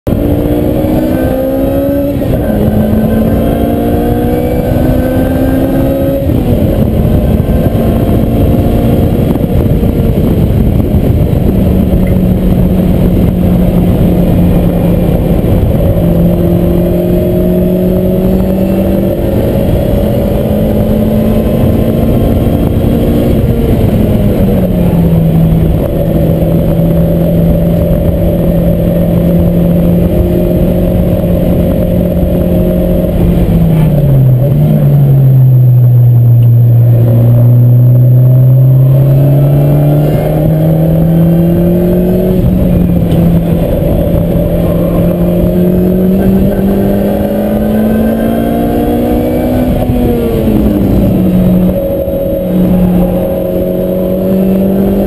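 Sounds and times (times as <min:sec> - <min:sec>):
car engine revving at speed: 0:00.0 - 0:55.0
road and wind noise: 0:00.0 - 0:55.0.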